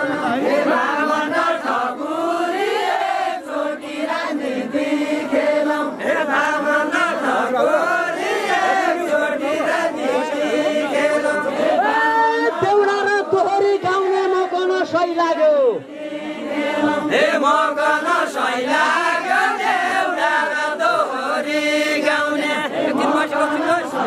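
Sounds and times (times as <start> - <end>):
men singing folk song together: 0.0 - 13.7, 15.9 - 24.0.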